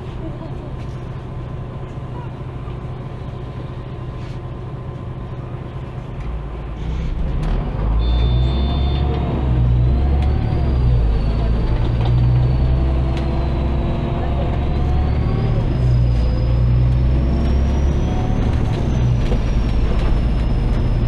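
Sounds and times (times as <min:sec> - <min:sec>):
bus diesel engine accelerating: 0:00.0 - 0:21.0.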